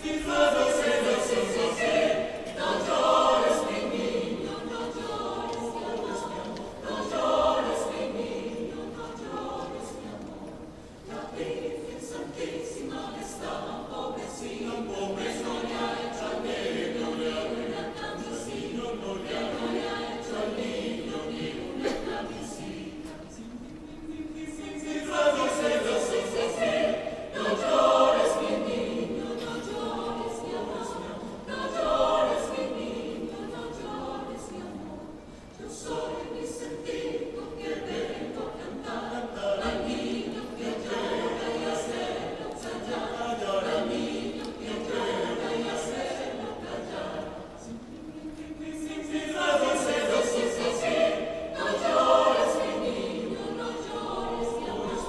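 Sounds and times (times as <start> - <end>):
vocal ensemble singing a cappella: 0.0 - 55.0.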